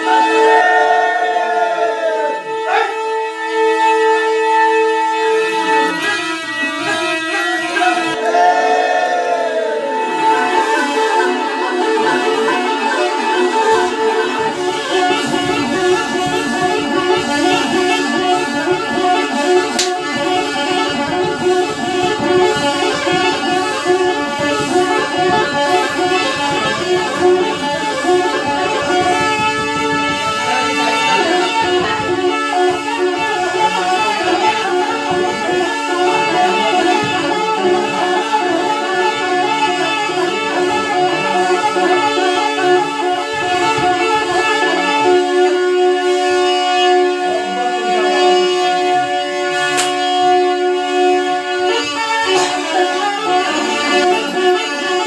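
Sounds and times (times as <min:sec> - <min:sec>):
droning wind instrument folk tune: 0:00.0 - 0:55.0.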